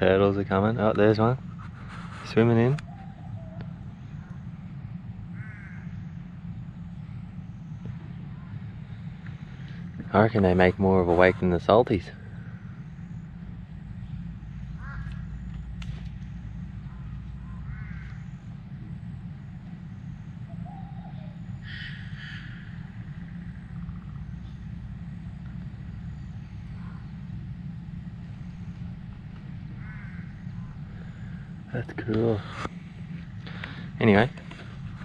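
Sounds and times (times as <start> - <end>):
low rumble: 0.0 - 35.0
birds cawing: 2.3 - 35.0.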